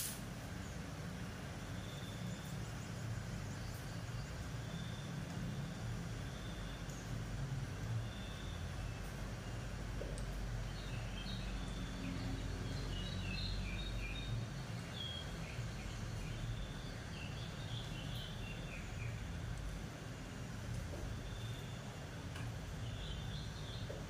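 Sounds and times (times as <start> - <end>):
birds chirping: 0.4 - 24.0.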